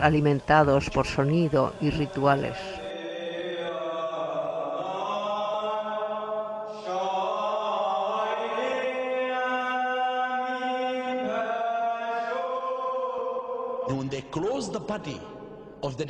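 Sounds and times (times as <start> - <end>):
slow chant of held notes: 0.9 - 15.8.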